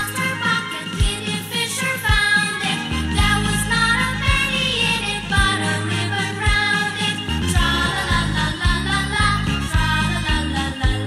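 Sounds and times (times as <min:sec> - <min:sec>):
children's sing-along music: 0:00.0 - 0:11.0.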